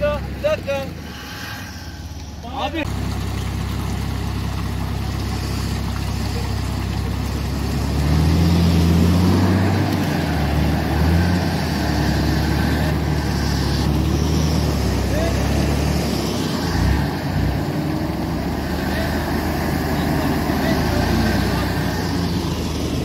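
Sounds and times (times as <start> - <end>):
off-road vehicle engines revving: 0.0 - 23.0.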